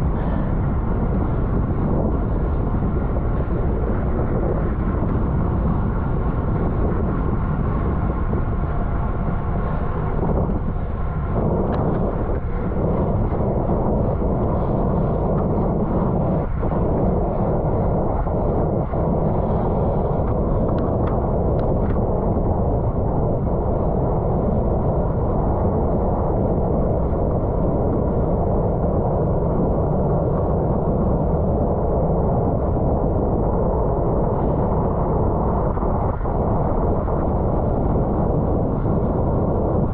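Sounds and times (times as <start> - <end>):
tyre and road noise: 0.0 - 39.9
wind rushing over microphone: 0.0 - 39.9.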